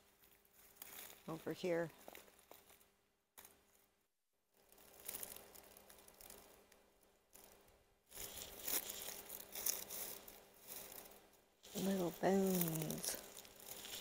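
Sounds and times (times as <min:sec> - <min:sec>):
footsteps crunching through dry leaves: 0:00.0 - 0:02.8, 0:04.6 - 0:14.0.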